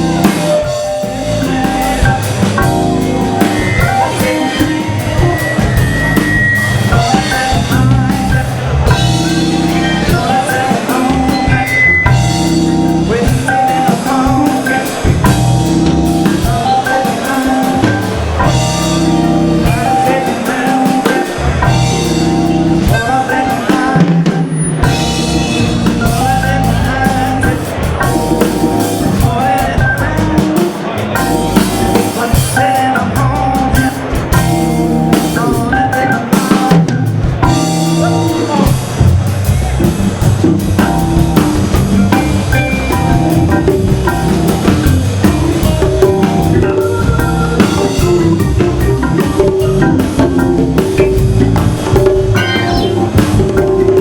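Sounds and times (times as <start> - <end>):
drum kit playing: 0.0 - 54.0
organ chords: 0.0 - 54.0.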